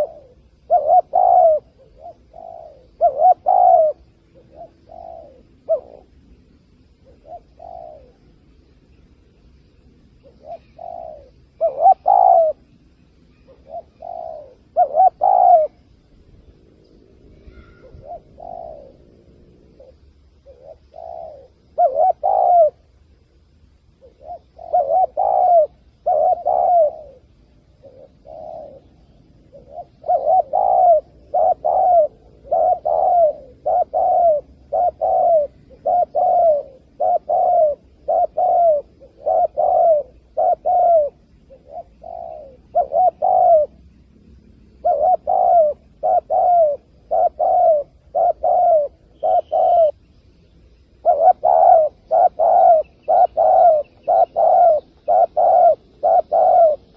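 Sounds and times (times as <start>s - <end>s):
dove cooing: 0.0s - 50.1s, 50.7s - 56.9s.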